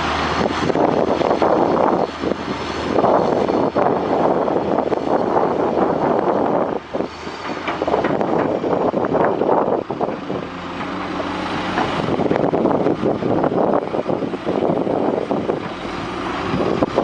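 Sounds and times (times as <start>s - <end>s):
heavy construction machinery running: 0.0s - 17.0s.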